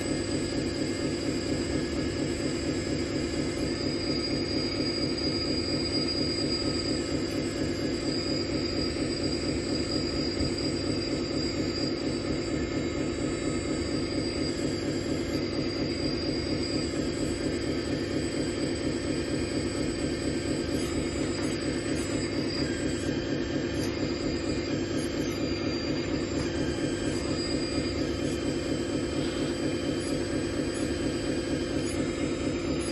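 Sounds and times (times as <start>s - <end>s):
electric hydraulic pump running: 0.0s - 32.9s.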